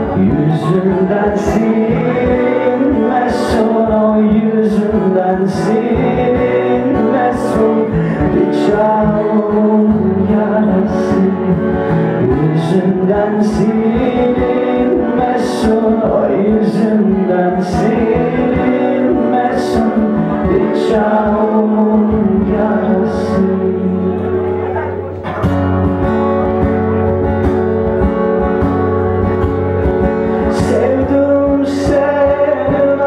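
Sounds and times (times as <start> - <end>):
acoustic folk band playing: 0.0 - 33.0
plucked and strummed strings: 0.0 - 33.0.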